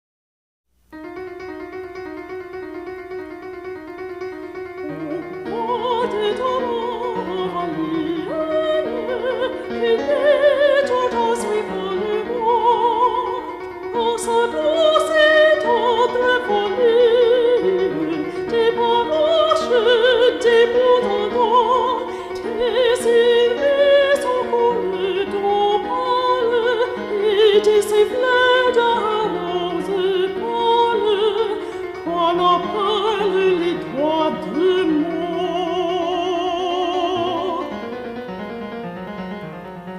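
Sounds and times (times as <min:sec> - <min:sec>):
classical accompaniment: 0:00.9 - 0:39.9
opera singer with vibrato: 0:04.8 - 0:37.9.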